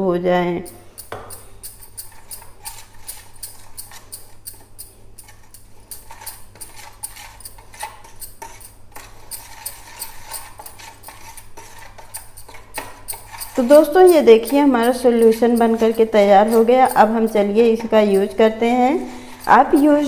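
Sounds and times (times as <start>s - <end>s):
spoon scraping a steel plate: 0.6s - 20.0s.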